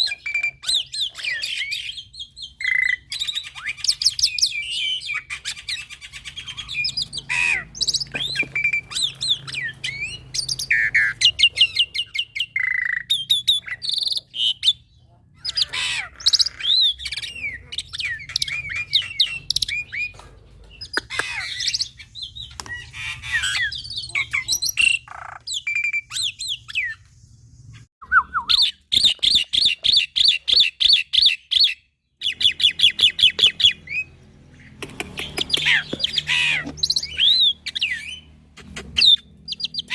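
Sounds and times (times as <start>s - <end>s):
myna singing whistles and squawks: 0.0s - 14.8s, 20.8s - 27.1s, 27.8s - 34.1s, 35.1s - 39.9s.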